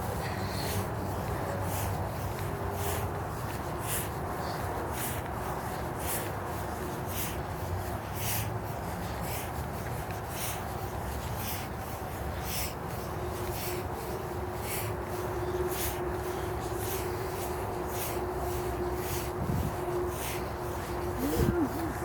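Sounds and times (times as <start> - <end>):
footsteps scuffing on path: 0.0 - 22.0.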